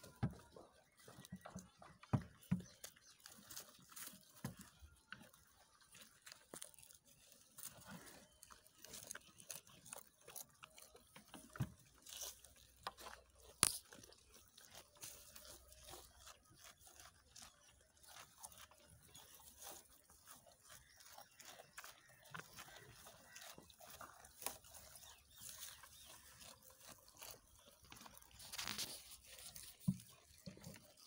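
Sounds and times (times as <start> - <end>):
goats chewing fodder: 0.0 - 31.0.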